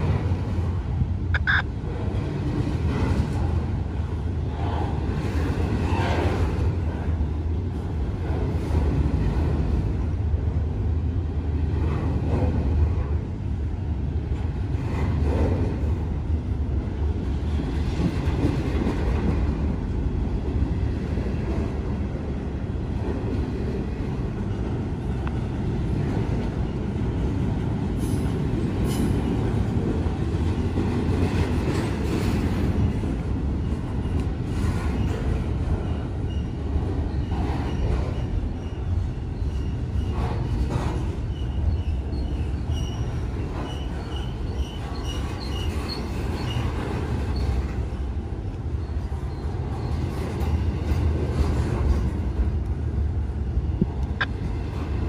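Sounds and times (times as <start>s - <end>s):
train cars rolling on rails: 0.0s - 55.0s.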